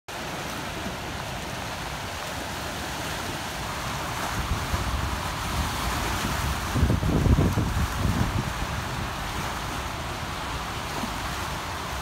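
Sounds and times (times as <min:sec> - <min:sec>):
river water rushing over rocks: 0:00.1 - 0:12.0
wind rumbling on microphone: 0:00.6 - 0:12.0.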